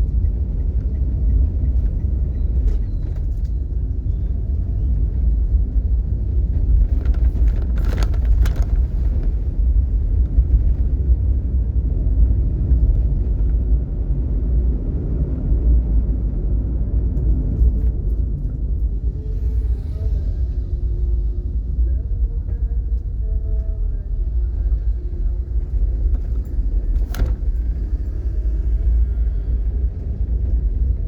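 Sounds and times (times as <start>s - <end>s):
vehicle rumbling on road: 0.0s - 31.0s.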